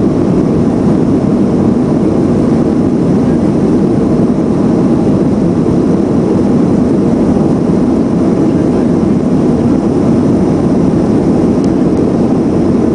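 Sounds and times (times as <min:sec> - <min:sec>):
airliner cabin engine drone: 0:00.0 - 0:12.9.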